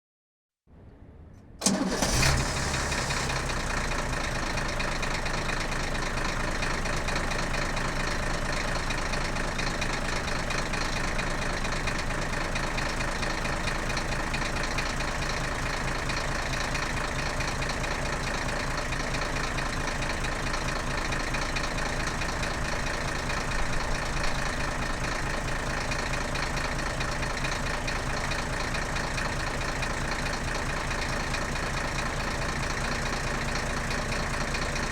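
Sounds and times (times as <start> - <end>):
diesel engine starting and idling: 0.7 - 34.9.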